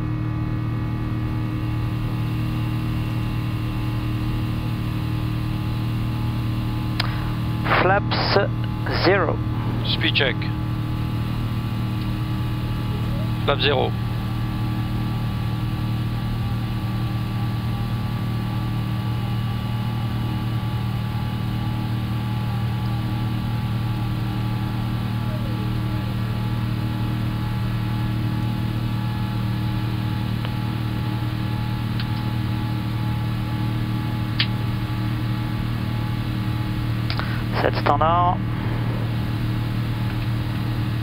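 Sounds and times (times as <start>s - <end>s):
aircraft cockpit hum: 0.0s - 41.0s.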